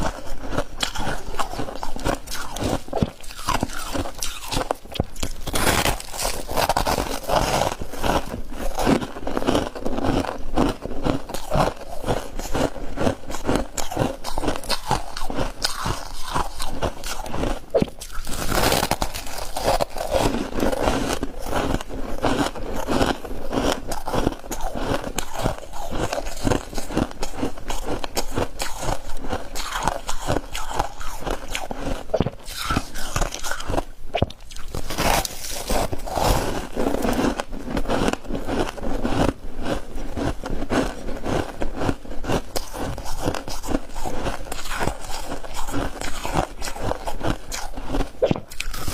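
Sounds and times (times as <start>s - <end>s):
person crunching ice: 0.0s - 48.9s.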